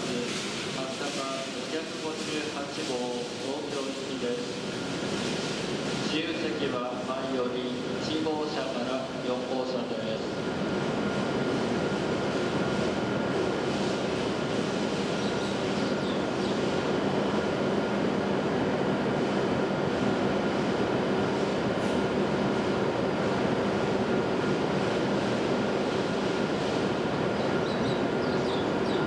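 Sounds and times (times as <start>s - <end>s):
train mechanical hum: 0.0s - 29.0s.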